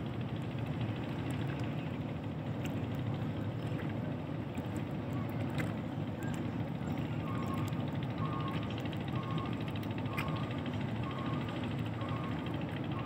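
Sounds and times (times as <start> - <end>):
ship engines rumbling: 0.0 - 13.0.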